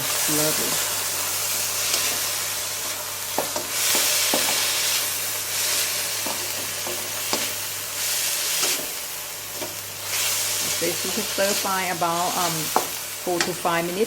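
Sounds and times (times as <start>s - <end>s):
vegetables sizzling in pan: 0.0s - 14.0s.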